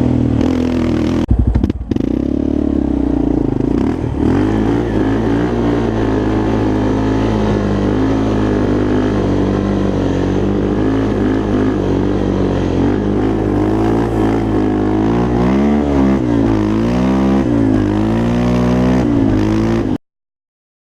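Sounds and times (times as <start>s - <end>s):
quad engine revving: 0.0s - 20.0s.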